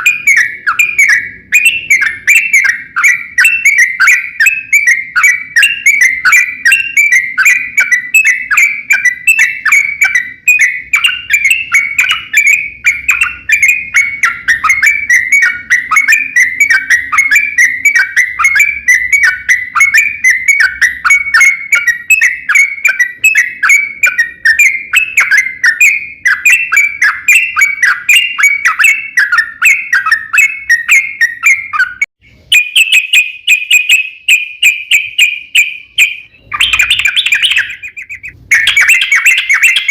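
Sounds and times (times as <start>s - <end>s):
bird singing bubbly chirps: 0.0s - 39.9s.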